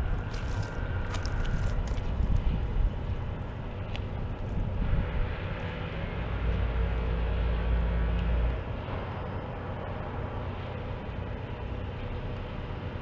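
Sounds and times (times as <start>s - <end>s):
diesel locomotive engine: 0.0s - 13.0s.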